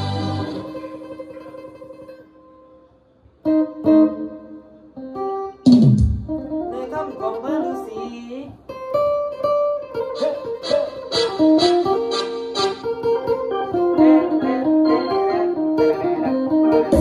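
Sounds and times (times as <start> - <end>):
lute plucked in melodic runs: 0.0 - 17.0.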